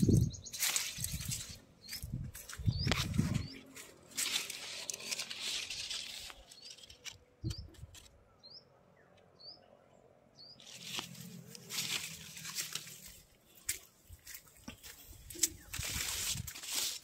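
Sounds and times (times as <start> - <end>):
leaves and branches rustling: 0.0 - 8.2, 10.6 - 17.0.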